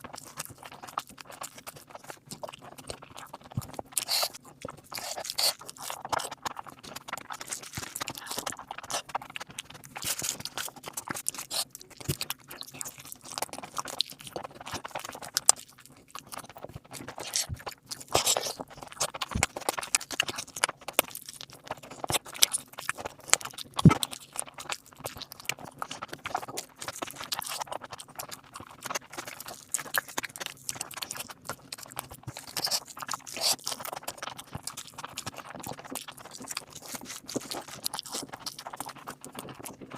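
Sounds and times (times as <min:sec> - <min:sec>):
wet chewing and lip smacking: 0:00.0 - 0:39.9.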